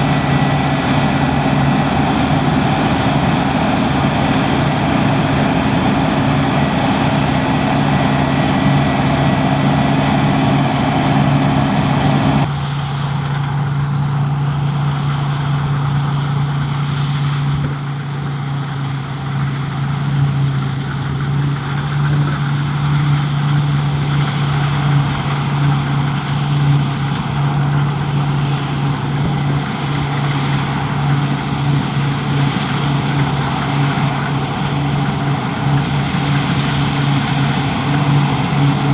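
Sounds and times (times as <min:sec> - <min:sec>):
low engine hum: 0:00.0 - 0:38.9
rushing mechanical noise: 0:00.0 - 0:38.9.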